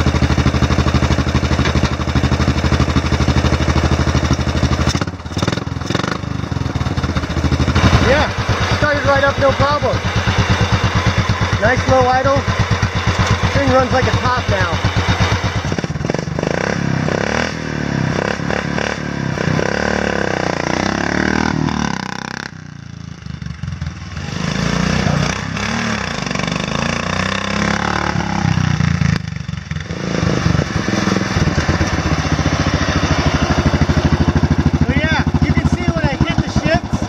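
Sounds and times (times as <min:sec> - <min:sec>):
lawn mower engine revving: 0:00.0 - 0:37.0.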